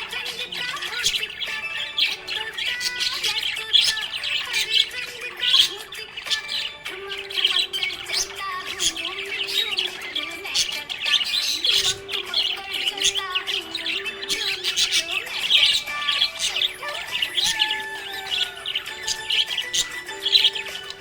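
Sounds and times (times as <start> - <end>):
budgies chirping and warbling: 0.0 - 21.0.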